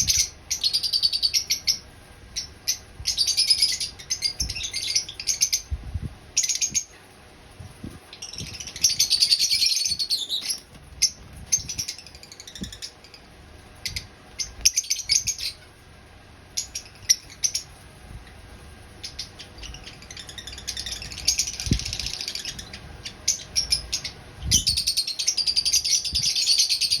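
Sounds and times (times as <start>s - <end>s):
lovebirds chattering and chirping: 0.0s - 27.0s.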